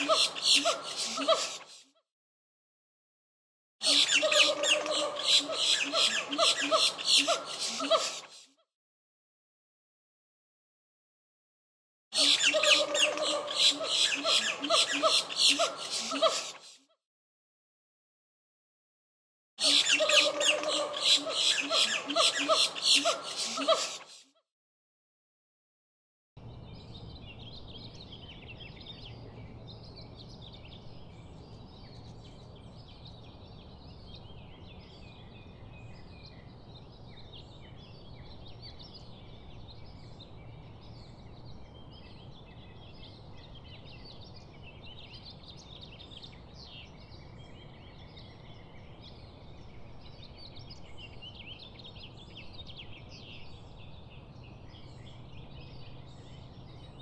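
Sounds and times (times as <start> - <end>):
chorus of chirping birds: 0.0 - 1.8, 3.8 - 8.4, 12.2 - 16.8, 19.6 - 24.1, 26.4 - 57.0.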